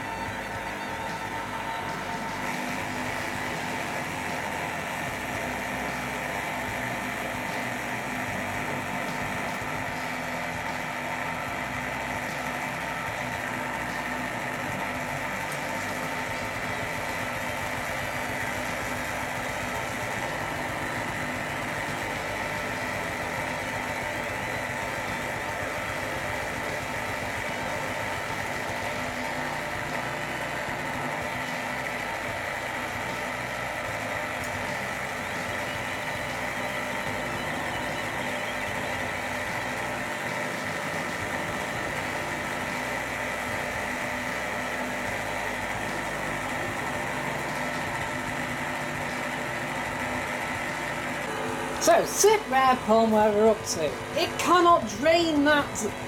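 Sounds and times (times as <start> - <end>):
washing machine drain pump humming: 0.0 - 56.0.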